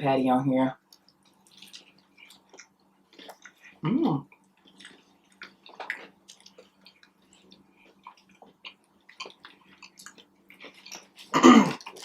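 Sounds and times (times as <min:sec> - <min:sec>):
close chewing with mouth smacks: 0:00.8 - 0:12.0.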